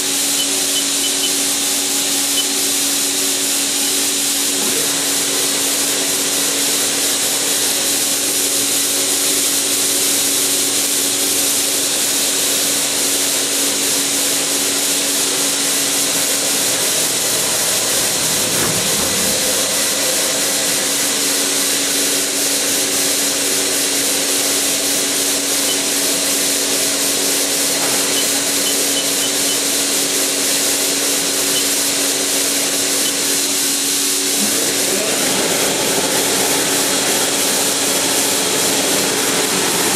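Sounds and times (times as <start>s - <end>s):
lathe whirring and humming: 0.0s - 39.9s.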